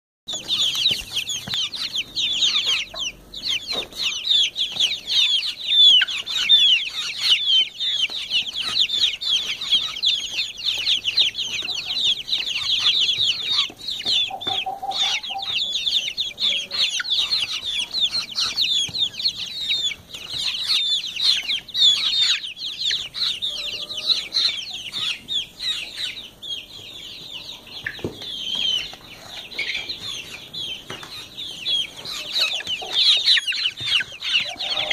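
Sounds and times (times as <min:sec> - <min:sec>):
chicks peeping: 0:00.3 - 0:34.9.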